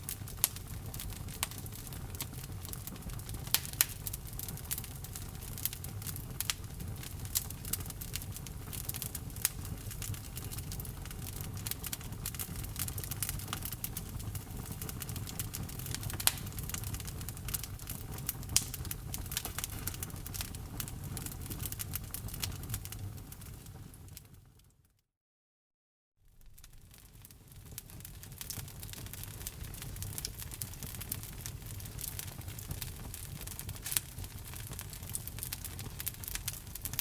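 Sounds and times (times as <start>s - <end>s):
wood fire crackling: 0.0s - 24.7s, 26.2s - 37.0s.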